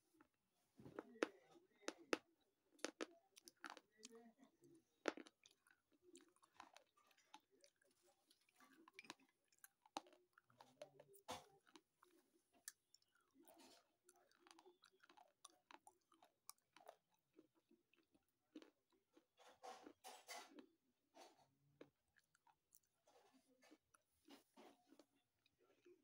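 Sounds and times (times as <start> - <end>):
chewing crunches: 2.8 - 25.9.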